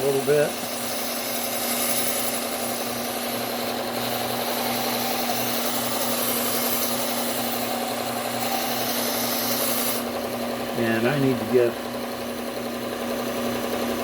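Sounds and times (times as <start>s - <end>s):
steel grinding against belt: 0.0s - 13.7s
belt sander motor hum: 0.0s - 14.0s.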